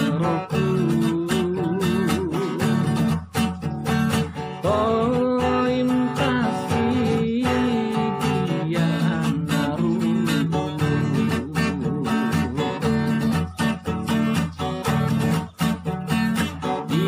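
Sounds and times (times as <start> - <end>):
rhythmic accompaniment: 0.0 - 17.0.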